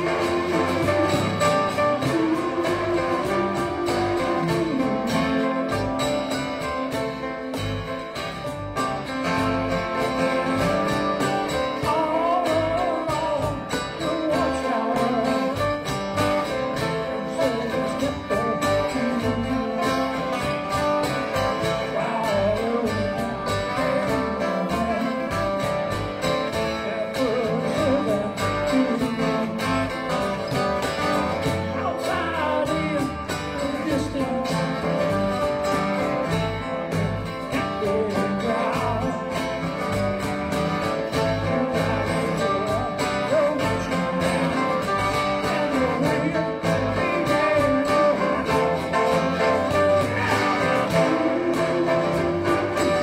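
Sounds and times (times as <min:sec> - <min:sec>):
cajon beat: 0:00.0 - 0:53.0
electric bass: 0:00.0 - 0:53.0
strummed acoustic guitars: 0:00.0 - 0:53.0.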